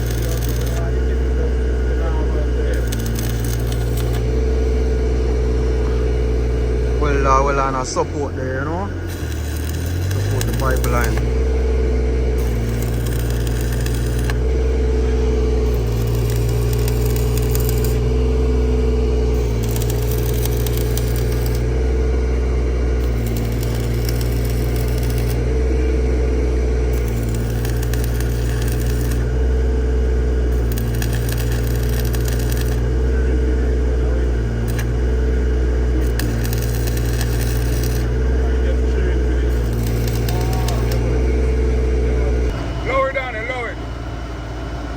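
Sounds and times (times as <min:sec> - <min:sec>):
engine humming: 0:00.0 - 0:44.9.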